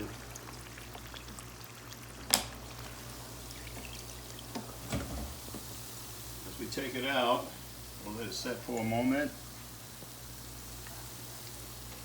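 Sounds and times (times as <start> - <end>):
deep-frying oil sizzling: 0.0 - 12.0.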